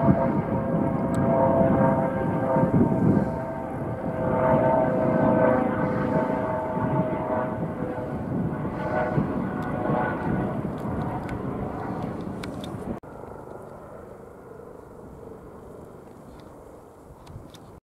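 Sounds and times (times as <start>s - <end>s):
airplane engines whining: 0.0s - 17.8s.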